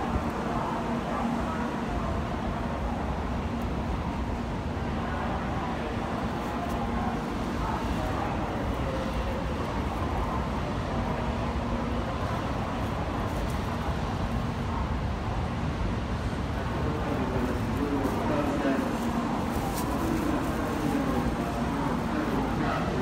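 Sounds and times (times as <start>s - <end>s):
distant voices: 0.0s - 23.0s.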